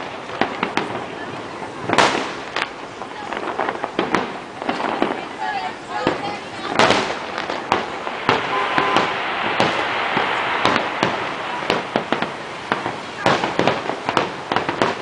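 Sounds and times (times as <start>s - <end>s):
crackling hiss: 0.0s - 15.0s
firework shells bursting: 0.0s - 15.0s.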